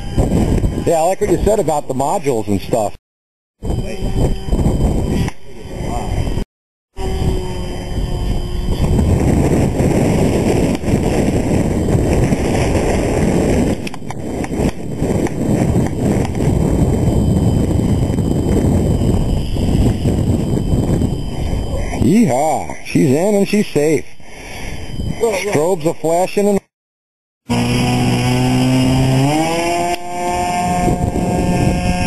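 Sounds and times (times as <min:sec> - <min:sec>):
wind buffeting microphone: 0:00.0 - 0:02.9, 0:03.6 - 0:06.4, 0:07.0 - 0:23.4, 0:27.5 - 0:32.0.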